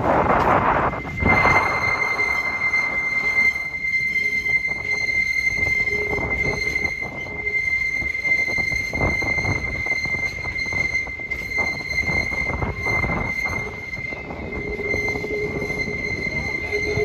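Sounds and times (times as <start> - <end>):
train cars rumbling and clattering: 0.0 - 17.0
train wheels squealing on rails: 0.0 - 17.0.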